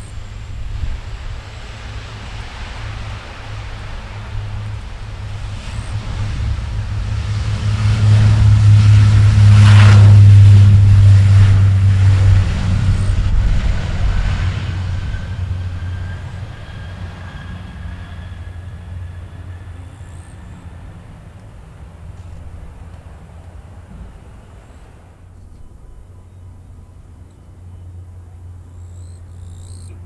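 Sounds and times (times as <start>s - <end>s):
airliner engines passing: 0.0s - 30.0s
low hum: 0.0s - 30.0s.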